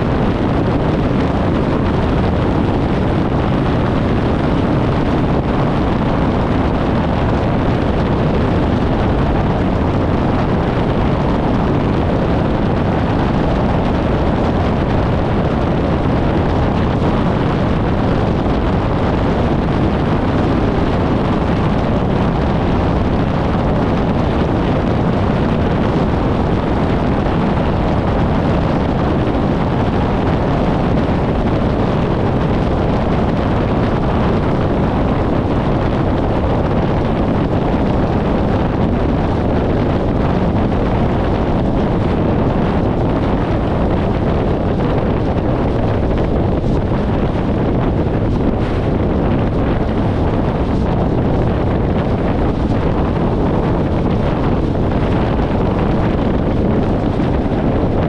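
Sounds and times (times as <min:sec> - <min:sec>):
car road rumble: 0:00.0 - 0:58.0
wind rush on microphone: 0:00.0 - 0:58.0.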